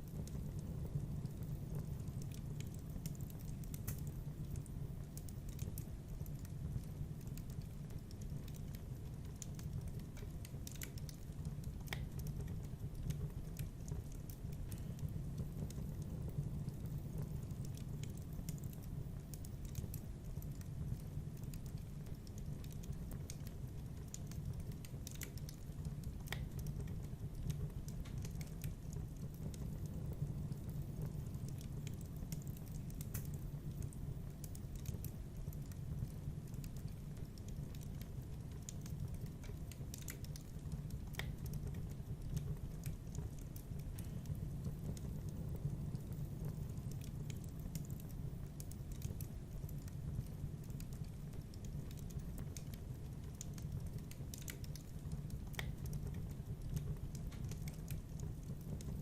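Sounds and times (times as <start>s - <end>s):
wood fire burning: 0.0s - 59.0s.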